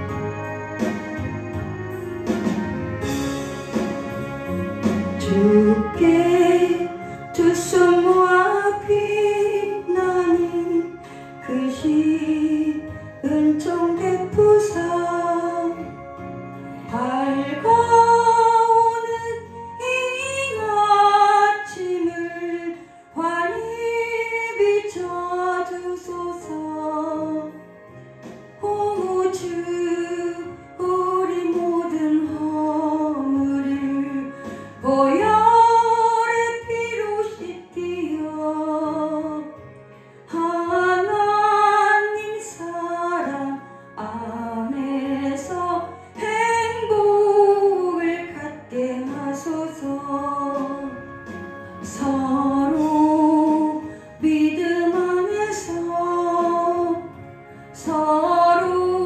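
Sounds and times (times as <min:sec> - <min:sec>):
instrumental accompaniment: 0:00.0 - 0:59.0
woman singing with vibrato: 0:05.0 - 0:16.0, 0:16.9 - 0:27.6, 0:28.6 - 0:39.6, 0:40.3 - 0:51.2, 0:51.8 - 0:57.2, 0:57.8 - 0:59.0.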